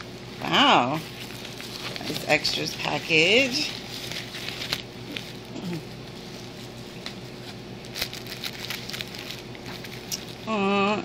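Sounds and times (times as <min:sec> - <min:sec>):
plastic bags rustling and crinkling: 0:00.7 - 0:10.4.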